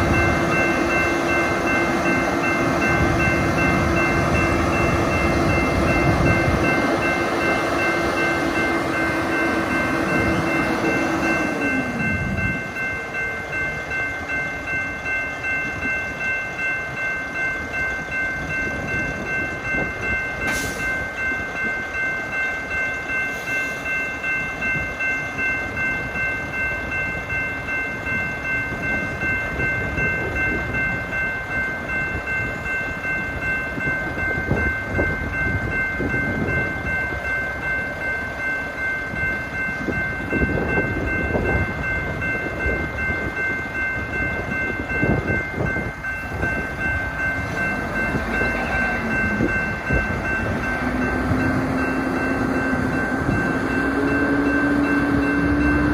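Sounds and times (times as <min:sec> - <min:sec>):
crossing bell ringing: 0:00.0 - 0:55.9.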